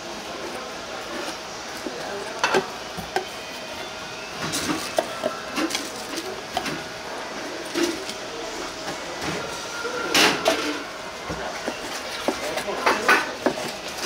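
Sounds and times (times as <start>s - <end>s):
utensils and dishes clattering: 0.0s - 14.0s.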